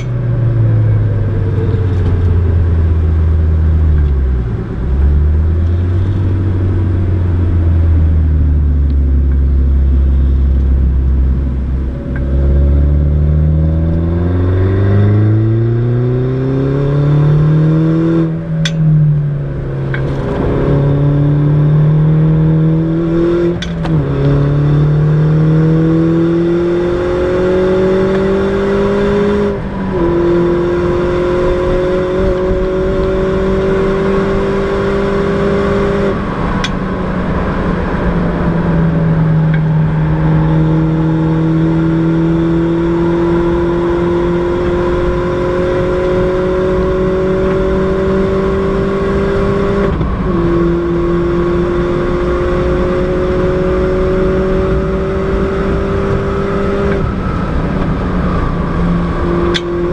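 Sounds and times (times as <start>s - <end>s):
car engine at full throttle: 0.0s - 59.9s.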